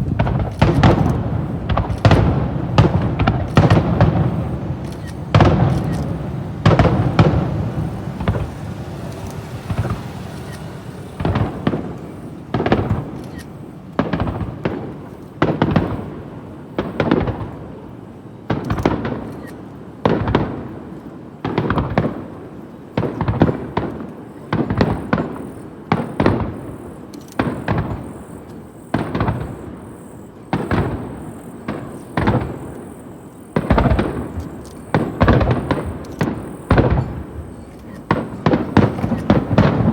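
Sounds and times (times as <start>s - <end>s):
fireworks bursting with bangs: 0.0s - 39.9s.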